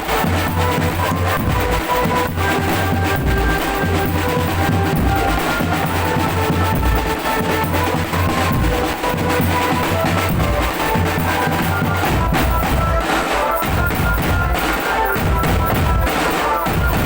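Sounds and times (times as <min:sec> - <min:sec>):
bass and snare drums: 0:00.0 - 0:17.0
held melody notes: 0:00.0 - 0:17.0.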